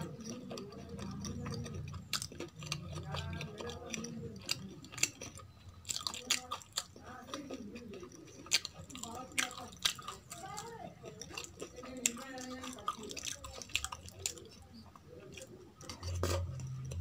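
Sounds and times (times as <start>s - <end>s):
wet chewing: 0.0s - 17.0s.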